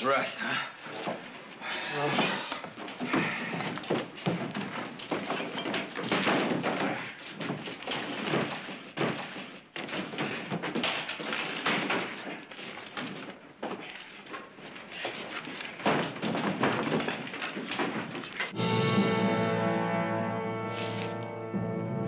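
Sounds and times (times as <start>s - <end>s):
wooden beams thudding and scraping: 0.8s - 18.6s.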